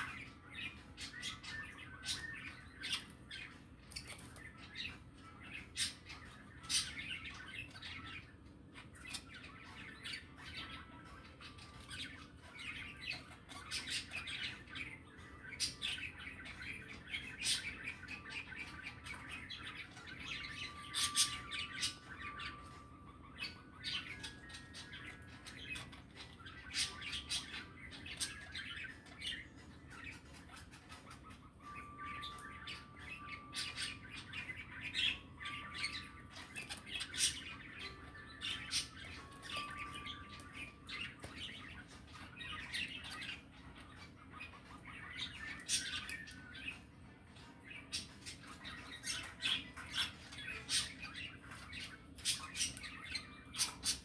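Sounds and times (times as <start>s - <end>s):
budgerigars chirping and squawking: 0.0s - 54.0s.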